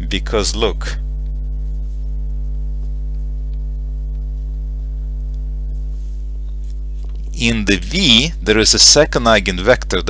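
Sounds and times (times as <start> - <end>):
mains hum: 0.0 - 10.0.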